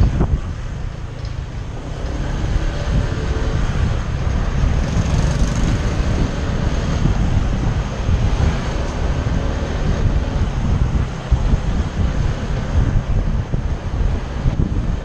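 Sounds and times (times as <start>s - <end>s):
vehicle rumbling: 0.0s - 15.0s
wind buffeting microphone: 0.0s - 15.0s.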